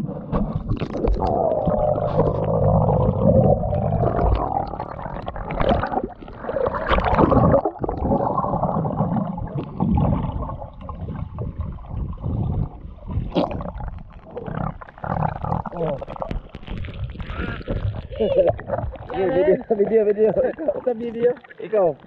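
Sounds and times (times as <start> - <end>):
bubbles breathed out: 0.0 - 21.7
water sloshing underwater: 0.0 - 22.0.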